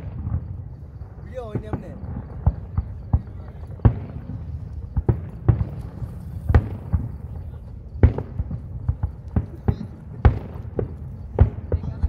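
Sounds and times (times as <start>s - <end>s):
fireworks bangs: 0.0s - 12.0s
small fireworks pops: 0.0s - 12.0s.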